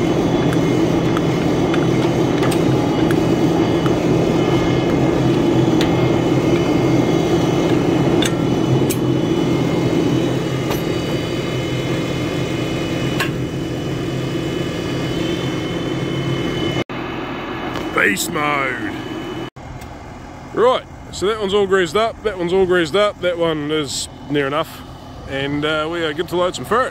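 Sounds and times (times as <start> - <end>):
diesel tractor engine idling: 0.0 - 14.9, 19.6 - 26.9.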